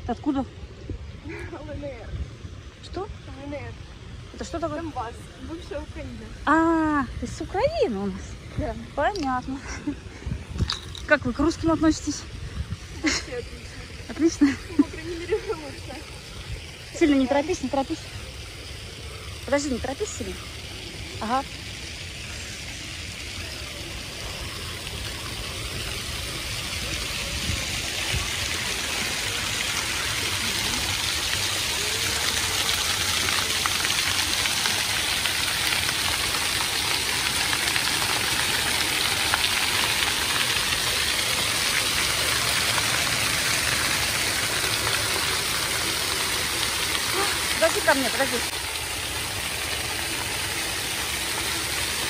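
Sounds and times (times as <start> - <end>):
fountain water splashing on paving: 0.0 - 52.0.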